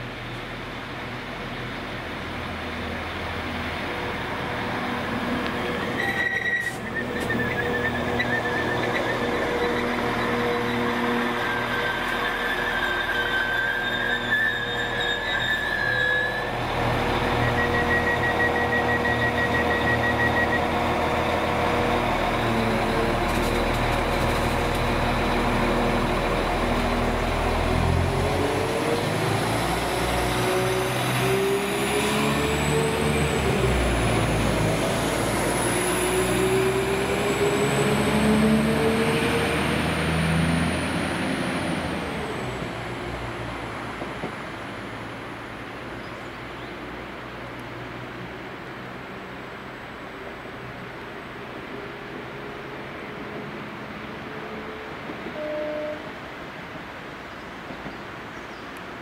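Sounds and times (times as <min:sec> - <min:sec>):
diesel train engines accelerating: 0:00.0 - 0:59.0.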